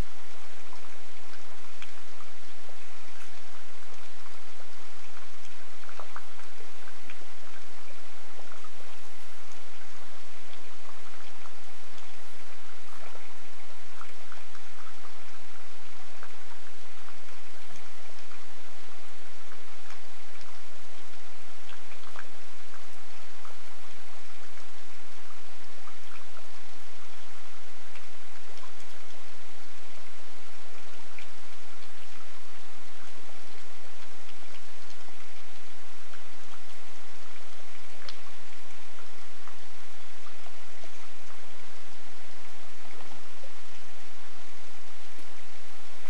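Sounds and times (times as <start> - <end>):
steady rain hiss: 0.0 - 46.0.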